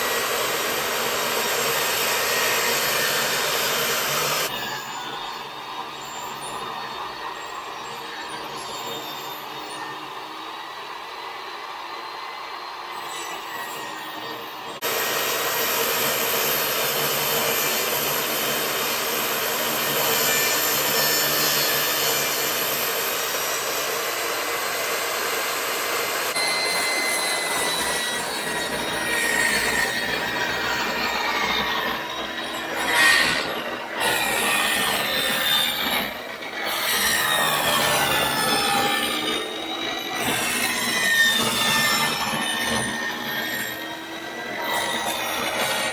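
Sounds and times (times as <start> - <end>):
saw cutting wood: 0.0 - 10.3, 13.0 - 45.9.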